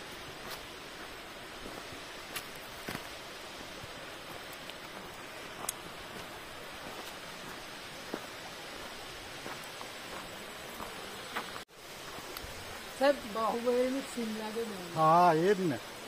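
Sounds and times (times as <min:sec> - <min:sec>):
rocky stream flowing: 0:00.0 - 0:16.0
waterfall rushing: 0:00.0 - 0:16.0.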